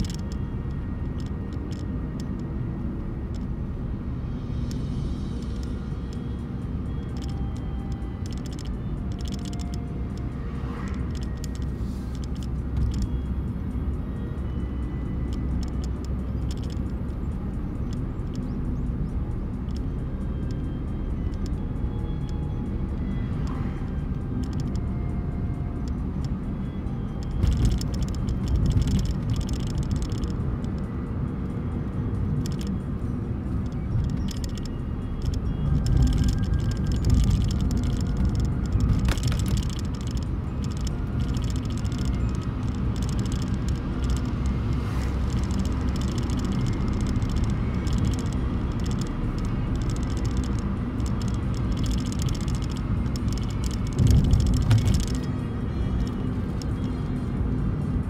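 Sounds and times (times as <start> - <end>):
car road and engine noise: 0.0 - 58.0
faint music: 0.0 - 58.0.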